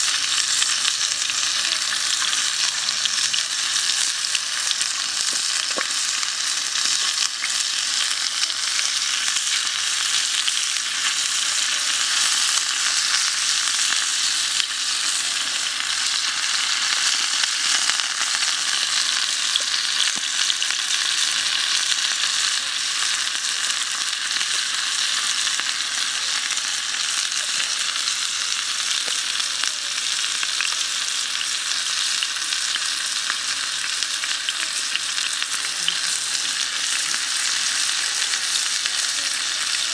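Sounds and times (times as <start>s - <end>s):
meat frying in hot oil: 0.0s - 39.9s.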